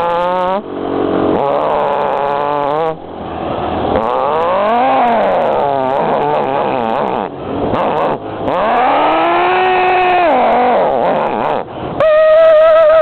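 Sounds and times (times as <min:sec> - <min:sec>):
man imitating motorcycle engine: 0:00.0 - 0:03.1, 0:03.9 - 0:13.0.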